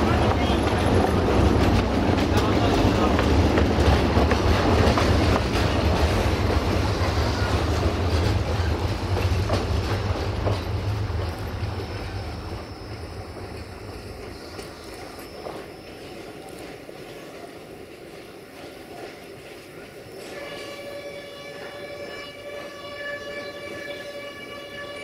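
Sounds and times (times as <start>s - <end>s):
train running past: 0.0s - 25.0s.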